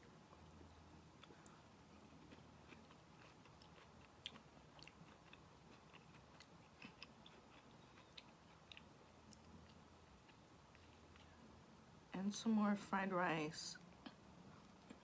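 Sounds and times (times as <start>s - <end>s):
faint low hum: 0.0s - 15.0s
chewing tomato: 0.3s - 11.5s, 13.9s - 15.0s.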